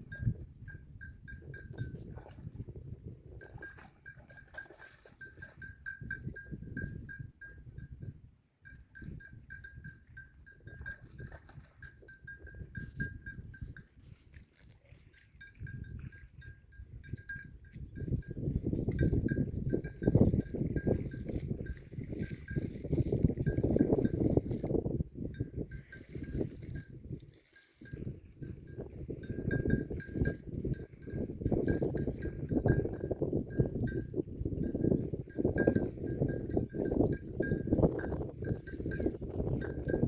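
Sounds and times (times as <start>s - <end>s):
animal bell clinking: 0.1s - 2.0s, 2.8s - 14.0s, 15.2s - 22.8s, 25.2s - 27.0s, 27.8s - 40.0s.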